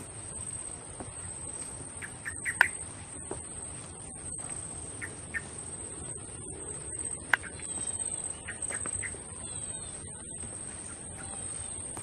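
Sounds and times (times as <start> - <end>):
birds chirping and calling: 1.2 - 12.0.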